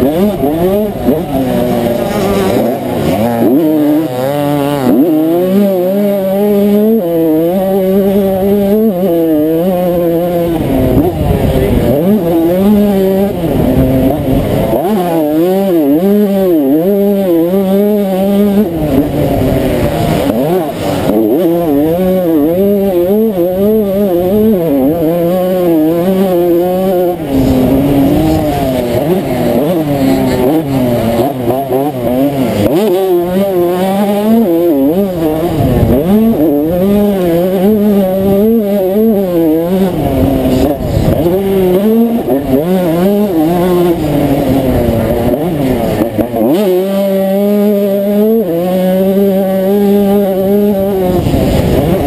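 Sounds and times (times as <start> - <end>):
two-stroke engine revving hard: 0.0 - 52.0.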